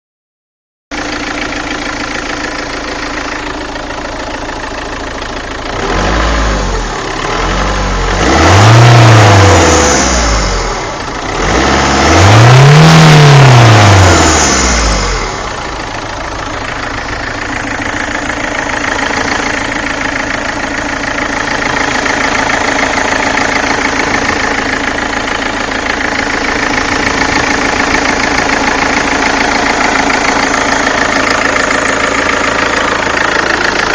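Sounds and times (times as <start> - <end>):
diesel engine idling and revving: 0.9 - 33.9.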